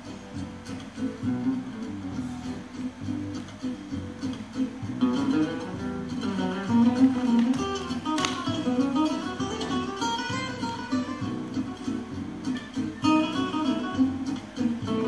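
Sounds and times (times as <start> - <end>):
flamenco acoustic guitar: 0.0 - 15.0.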